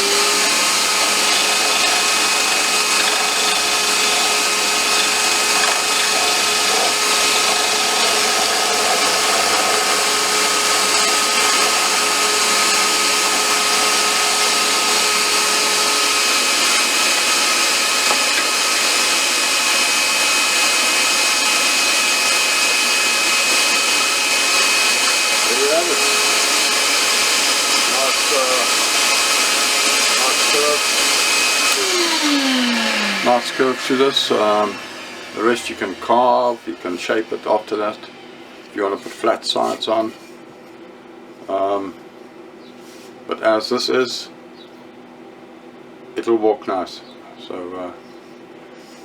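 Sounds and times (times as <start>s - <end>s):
wood lathe motor whir: 0.0s - 39.8s.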